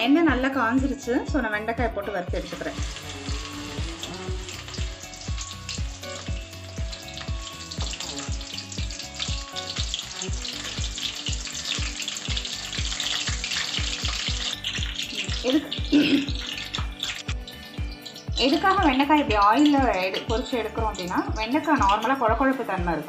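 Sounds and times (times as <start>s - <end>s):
background music with steady beat: 0.0s - 23.0s
okra sizzling in hot oil: 0.1s - 23.0s.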